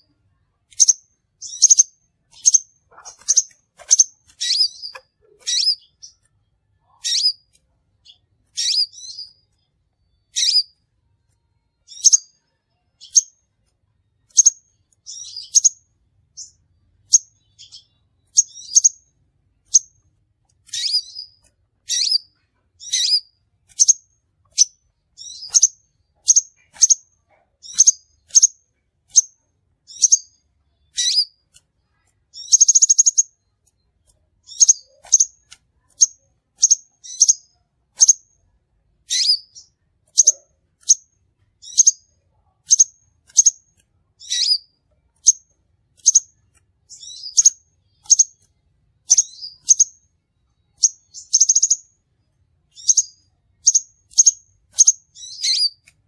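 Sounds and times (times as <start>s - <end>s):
bird trill: 0.0s - 10.9s, 11.6s - 13.5s, 14.2s - 38.4s, 39.0s - 52.0s, 52.7s - 55.9s
bird chirping: 0.0s - 56.0s.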